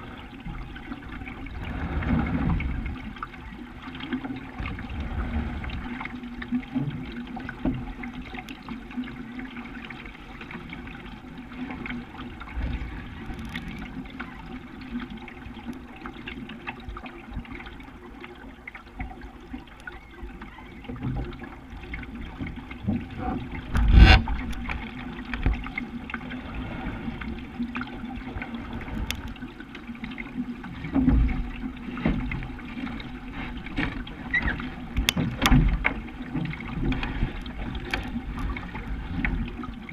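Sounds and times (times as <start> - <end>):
water lapping against boat hull: 0.0 - 39.9.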